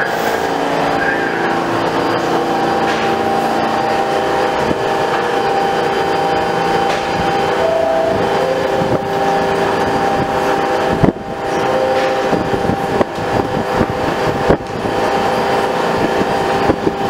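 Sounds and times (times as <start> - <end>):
station noise rumbling: 0.0 - 17.0
train mechanical hum: 0.0 - 17.0.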